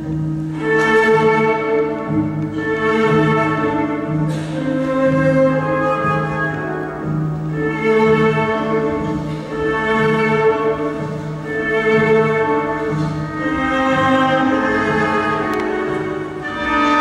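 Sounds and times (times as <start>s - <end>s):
orchestral music with bowed strings: 0.0s - 17.0s.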